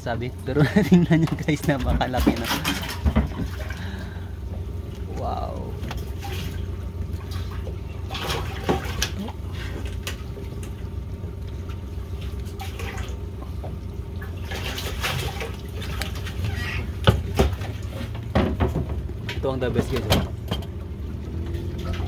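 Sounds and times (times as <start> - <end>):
steady low hum: 0.0 - 22.0
water splashing in fish well: 0.6 - 19.2, 19.8 - 22.0.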